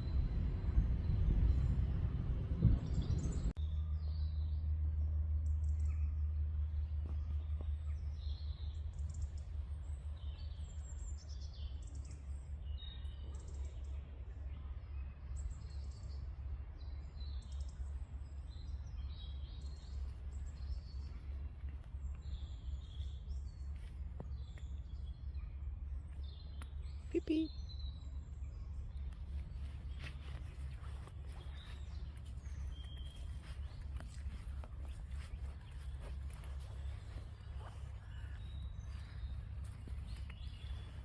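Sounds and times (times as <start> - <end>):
low steady rumble: 0.0 - 41.0
small birds chirping: 0.0 - 41.0.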